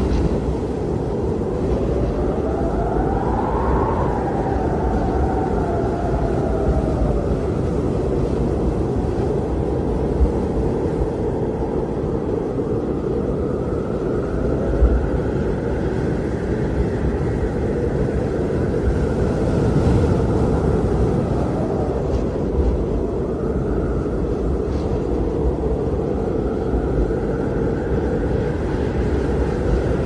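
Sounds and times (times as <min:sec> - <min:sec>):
blizzard wind rumble: 0:00.0 - 0:30.0
faint wind howl: 0:00.0 - 0:30.0.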